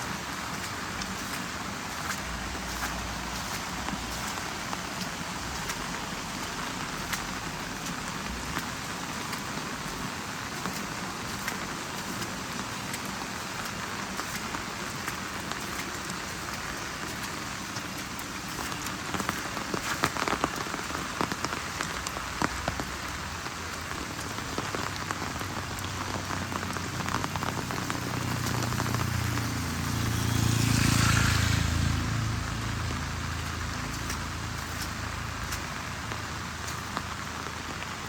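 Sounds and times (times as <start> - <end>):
heavy rain falling: 0.0 - 38.0
vehicle engine rumble: 0.0 - 38.0.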